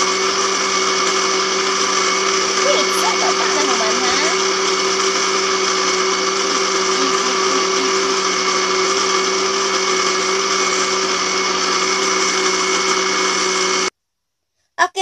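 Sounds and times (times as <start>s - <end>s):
blender running: 0.0s - 13.9s.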